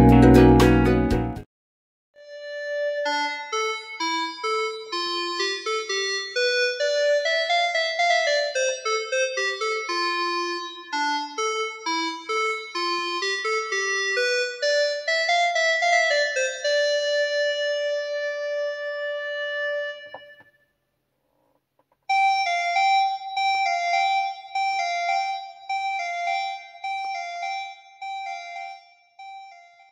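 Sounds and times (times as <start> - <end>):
piano-tone keyboard music: 0.0 - 1.4, 2.2 - 20.5, 22.1 - 29.9.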